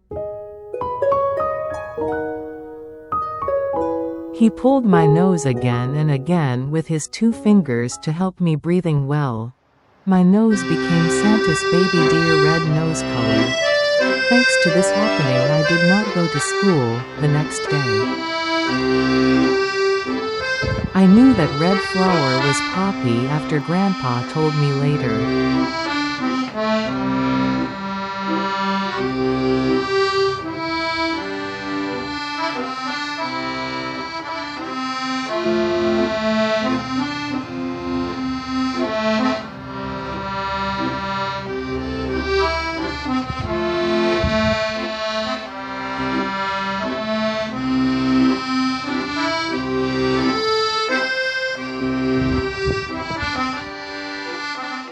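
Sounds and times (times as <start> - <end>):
slow instrumental music: 0.0 - 8.1, 10.4 - 54.9.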